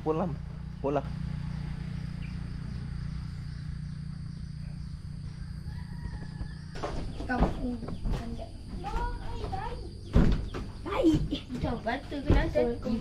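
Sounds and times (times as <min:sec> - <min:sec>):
constant low rumble: 0:00.0 - 0:13.0
insects droning: 0:00.0 - 0:13.0.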